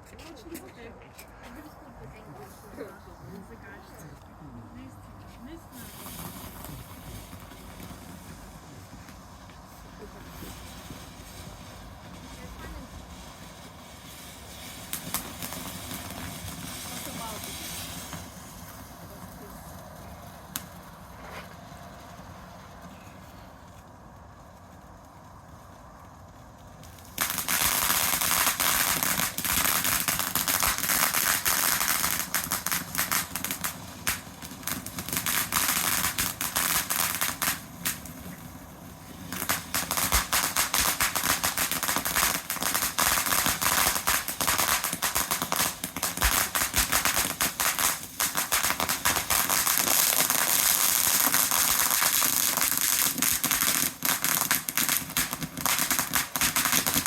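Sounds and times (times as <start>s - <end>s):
fireworks crackling volleys: 0.0s - 57.0s.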